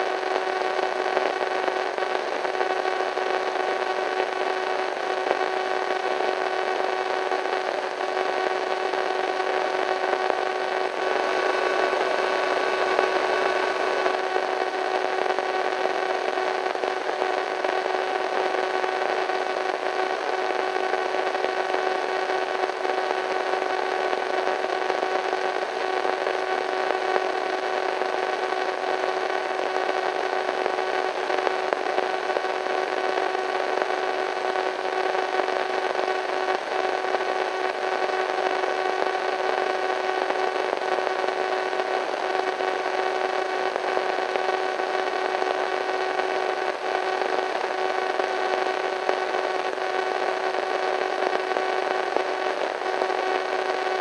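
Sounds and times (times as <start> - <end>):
faint steady hum: 0.0 - 54.0
radio static hiss: 0.0 - 54.0.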